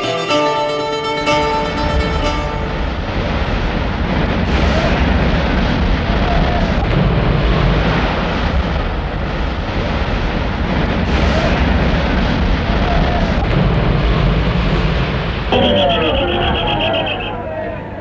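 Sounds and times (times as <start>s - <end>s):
wind: 1.0s - 18.0s
heavy low rumble: 1.5s - 18.0s.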